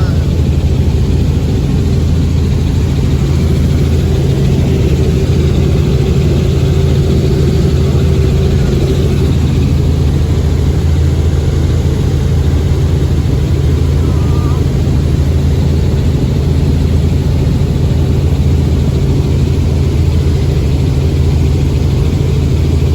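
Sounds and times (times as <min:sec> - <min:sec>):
helicopter engine and rotor: 0:00.0 - 0:22.9.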